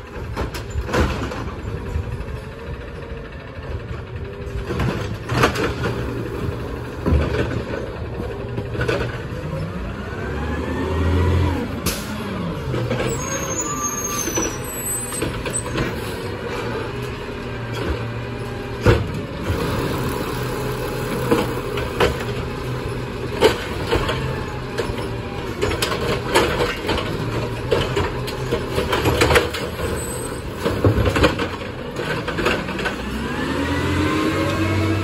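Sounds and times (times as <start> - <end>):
garbage truck engine running: 0.0 - 35.0.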